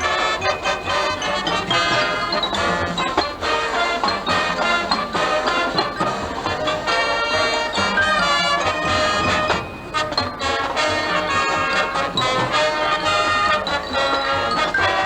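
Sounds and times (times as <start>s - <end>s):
marching band brass: 0.0s - 15.0s
marching band percussion: 0.0s - 15.0s.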